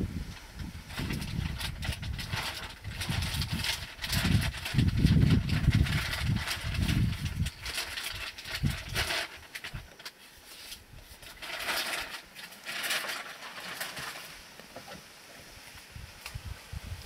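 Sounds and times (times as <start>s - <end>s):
leaves and branches rustling: 0.0s - 17.0s.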